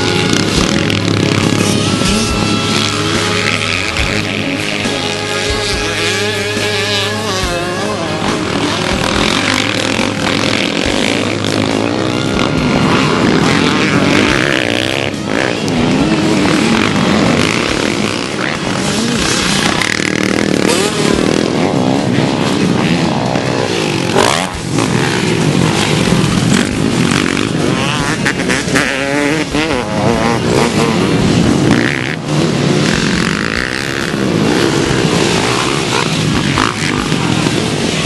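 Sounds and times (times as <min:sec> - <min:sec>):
motocross engines revving: 0:00.0 - 0:38.0.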